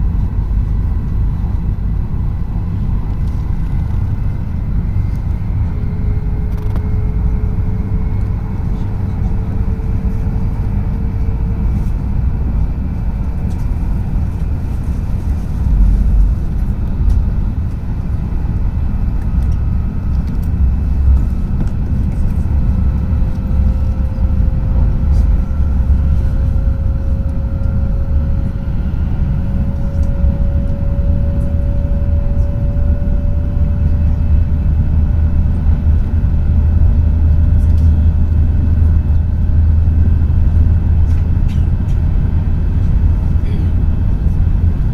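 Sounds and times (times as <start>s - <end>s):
train rumbling at speed: 0.0s - 44.9s.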